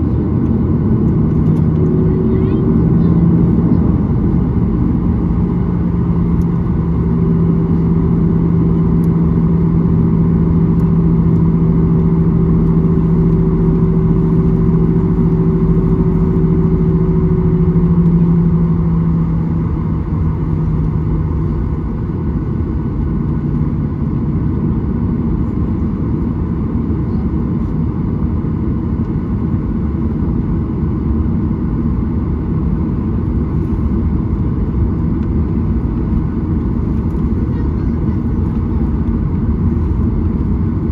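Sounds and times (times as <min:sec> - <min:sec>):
airplane engines rumbling: 0:00.0 - 0:40.9
steady cabin hum: 0:00.0 - 0:40.9.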